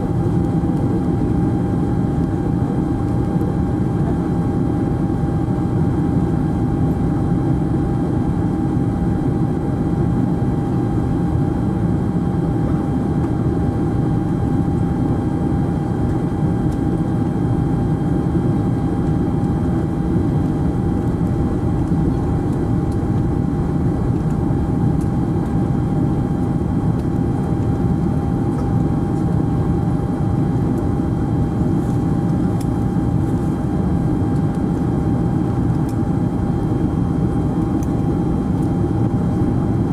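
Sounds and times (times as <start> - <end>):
engine and airflow rumble: 0.0 - 39.9.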